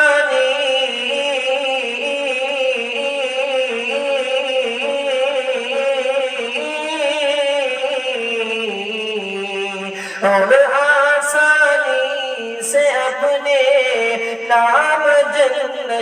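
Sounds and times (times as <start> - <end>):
man singing a cappella: 0.0 - 16.0.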